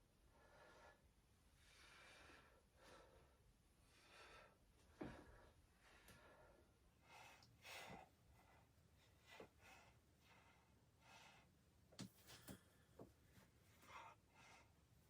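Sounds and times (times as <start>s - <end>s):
person breathing softly: 0.3s - 11.6s, 13.7s - 14.9s.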